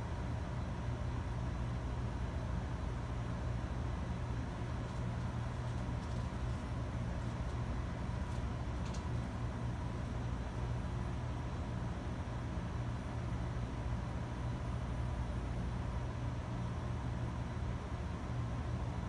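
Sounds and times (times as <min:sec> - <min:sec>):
computer equipment hum: 0:00.0 - 0:19.0.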